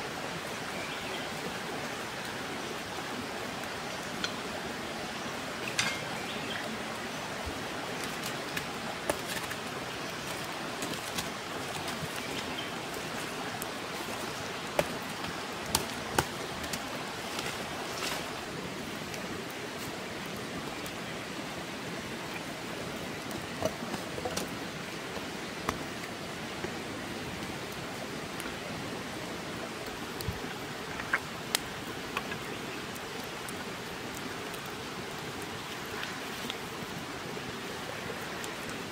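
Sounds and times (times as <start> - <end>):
rushing water: 0.0 - 38.9
wood fire crackling: 1.6 - 38.9.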